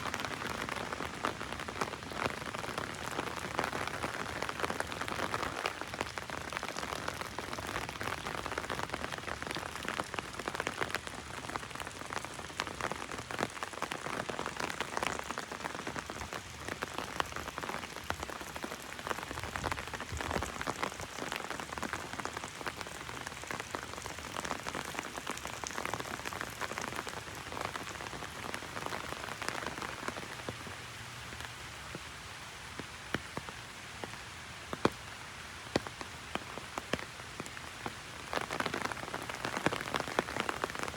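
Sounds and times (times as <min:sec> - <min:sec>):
heavy rain on umbrella: 0:00.0 - 0:40.9.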